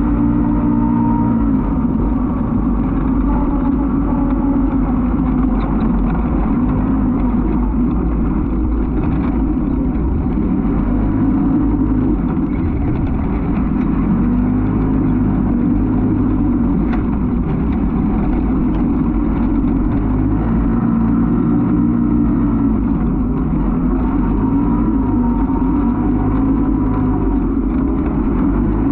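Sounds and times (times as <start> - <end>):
race vehicle engine revving: 0.0 - 28.9.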